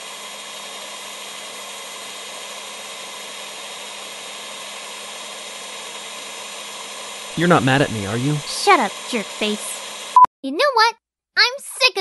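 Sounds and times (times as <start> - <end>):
stand mixer motor hum: 0.0 - 10.2.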